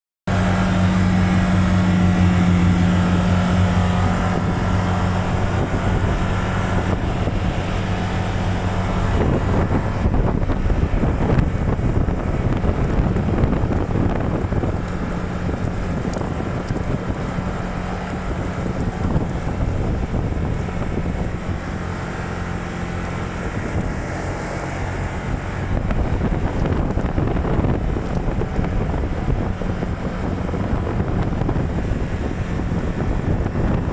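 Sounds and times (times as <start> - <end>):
engine running steadily: 0.3 - 33.9
rough rolling noise: 0.3 - 33.9
wind buffeting microphone: 0.3 - 33.9.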